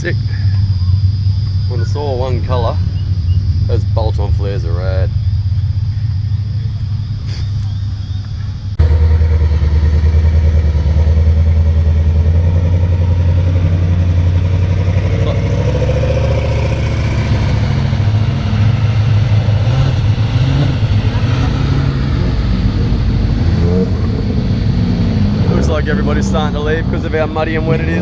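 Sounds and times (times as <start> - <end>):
car engine exhaust rumble: 0.0 - 28.0.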